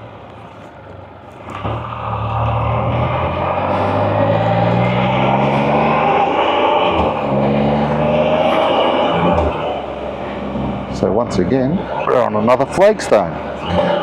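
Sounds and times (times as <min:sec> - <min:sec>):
engine accelerating hard: 0:00.0 - 0:14.0.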